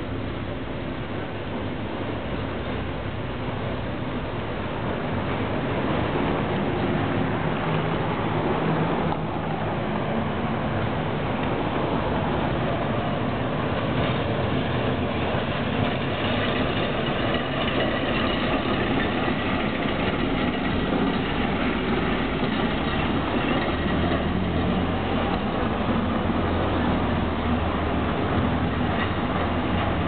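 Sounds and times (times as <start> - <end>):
street traffic: 0.0 - 30.0
tram humming: 0.0 - 30.0.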